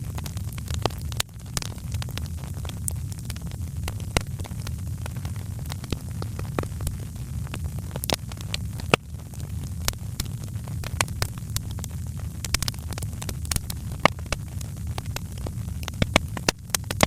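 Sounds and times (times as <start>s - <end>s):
low rumble of flames: 0.0s - 17.0s
wood fire crackling and popping: 0.1s - 17.0s.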